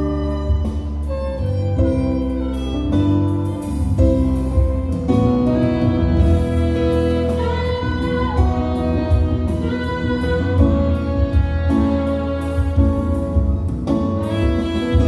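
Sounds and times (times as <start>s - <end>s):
slow instrumental processional music: 0.0s - 15.0s.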